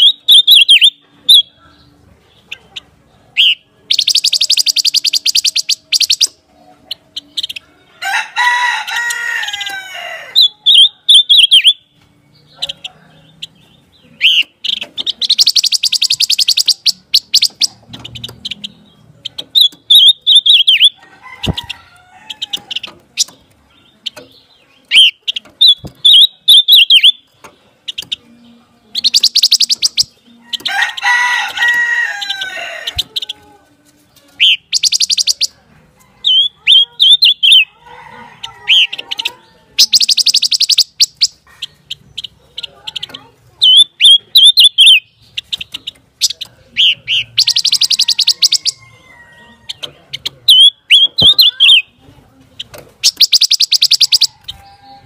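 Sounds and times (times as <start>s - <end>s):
bird singing whistled notes and trills: 0.0s - 7.7s, 9.6s - 21.0s, 22.4s - 33.5s, 34.3s - 35.6s, 36.2s - 37.8s, 38.7s - 49.0s, 49.7s - 52.0s, 52.6s - 55.0s.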